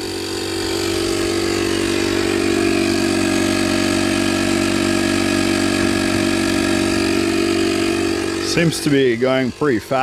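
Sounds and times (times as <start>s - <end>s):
air compressor buzzing hum: 0.0s - 10.0s.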